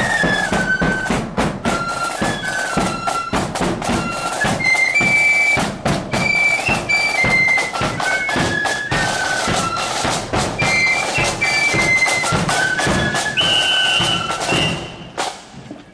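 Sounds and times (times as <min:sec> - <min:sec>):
flutes playing in unison: 0:00.0 - 0:15.4
marching drum beats: 0:00.0 - 0:15.9.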